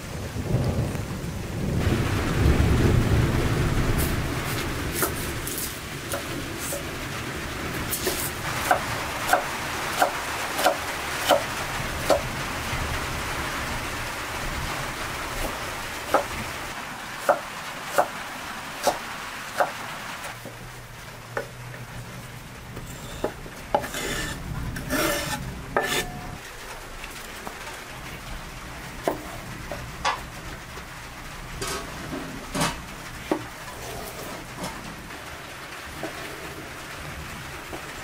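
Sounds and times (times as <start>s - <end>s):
food sizzling as it fries: 3.9s - 38.0s.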